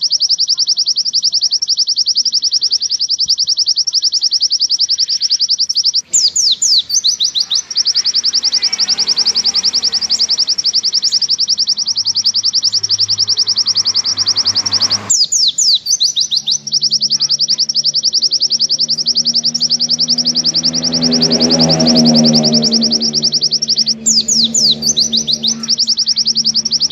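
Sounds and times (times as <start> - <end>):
bird singing rapid trill: 0.0 - 26.9.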